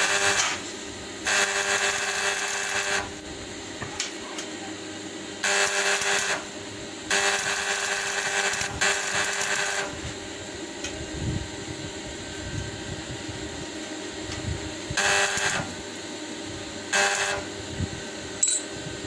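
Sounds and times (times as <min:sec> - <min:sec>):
electric drill running in bursts: 0:00.0 - 0:04.1, 0:05.0 - 0:10.7, 0:12.6 - 0:19.0.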